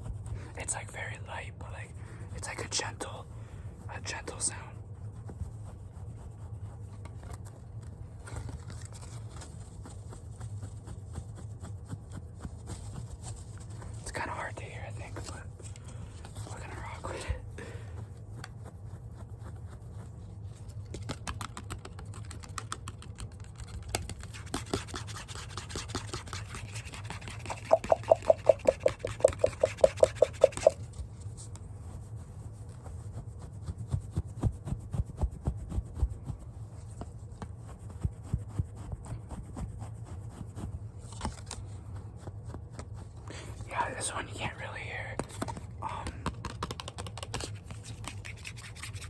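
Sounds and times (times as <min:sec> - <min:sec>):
scratching on a plastic toy: 0:00.0 - 0:00.8, 0:01.8 - 0:49.0
faint low hum: 0:00.0 - 0:49.0.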